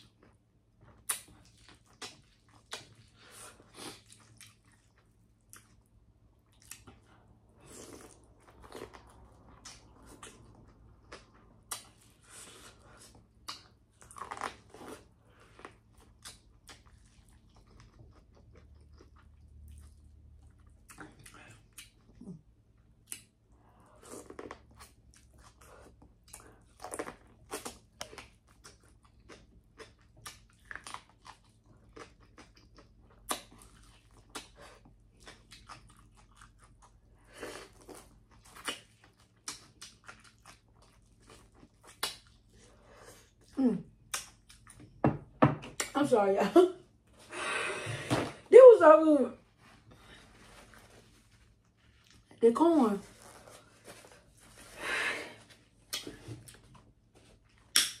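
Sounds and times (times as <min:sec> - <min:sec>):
person chewing food: 0:00.0 - 0:45.9, 0:49.8 - 0:52.4, 0:55.4 - 0:58.0.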